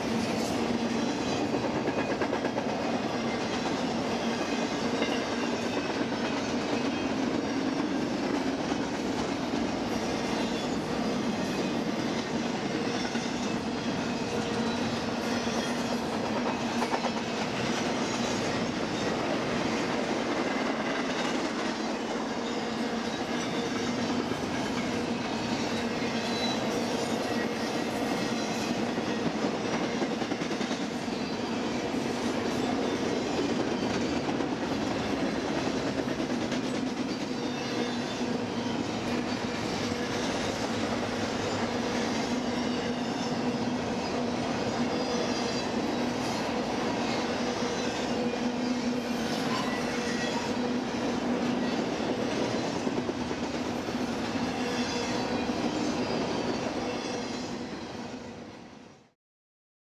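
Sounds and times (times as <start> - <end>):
train wheels on rails: 0.0 - 59.2.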